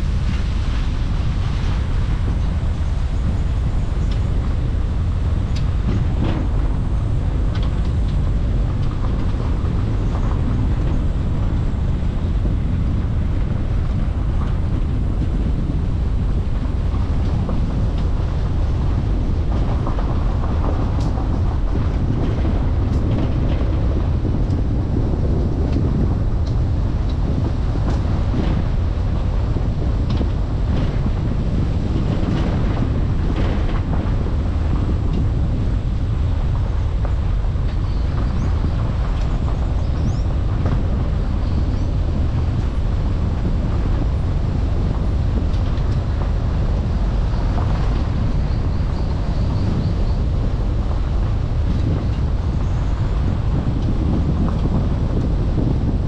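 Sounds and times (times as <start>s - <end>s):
road and engine noise: 0.0s - 56.0s.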